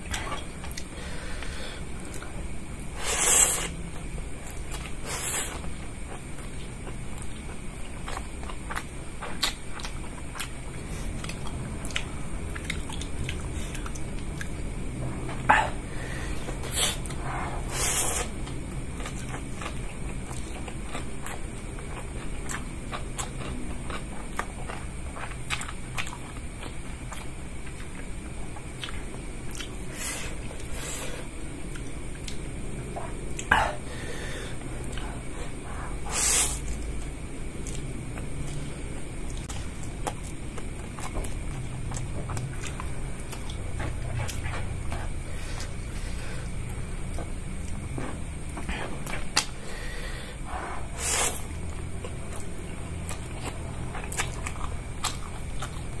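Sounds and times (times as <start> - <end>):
man chewing food: 0.0 - 56.0.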